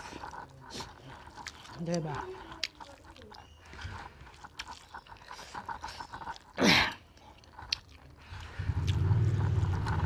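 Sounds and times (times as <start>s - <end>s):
chewing and wet eating: 0.0s - 10.0s.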